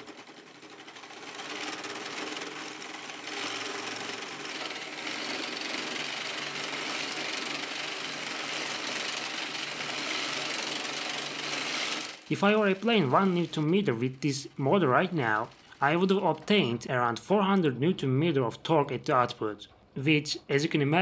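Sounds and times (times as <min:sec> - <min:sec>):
gearbox whirring and rattling: 0:00.0 - 0:18.4.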